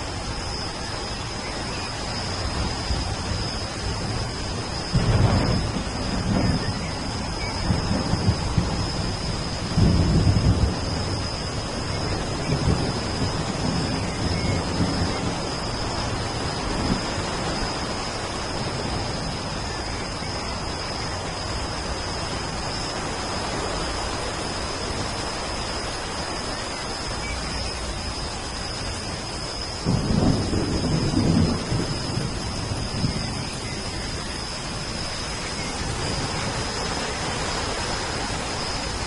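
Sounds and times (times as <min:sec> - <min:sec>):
steady rain falling: 0:00.0 - 0:39.0
thin high whine: 0:00.0 - 0:39.0
thunder rumble: 0:00.0 - 0:39.0.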